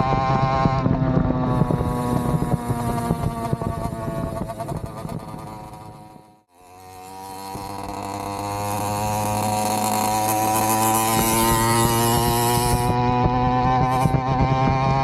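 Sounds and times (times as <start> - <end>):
two-stroke engine buzzing: 0.0 - 15.0.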